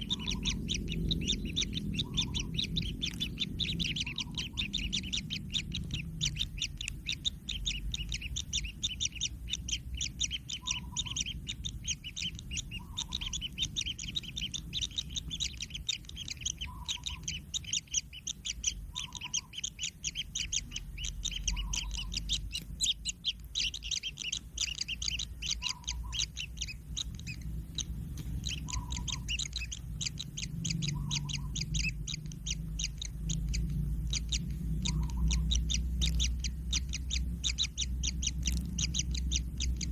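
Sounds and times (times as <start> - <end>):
chicks chirping begging calls: 0.0 - 39.9
low rumble: 0.0 - 39.9.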